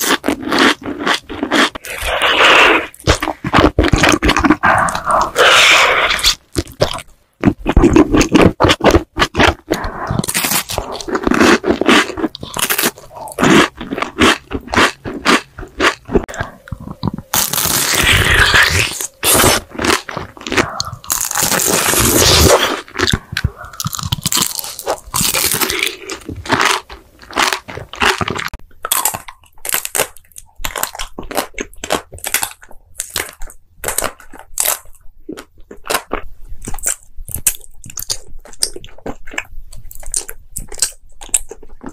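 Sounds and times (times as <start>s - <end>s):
mouth biting and chewing food: 0.0s - 41.9s
sharp food crunches: 0.0s - 41.9s.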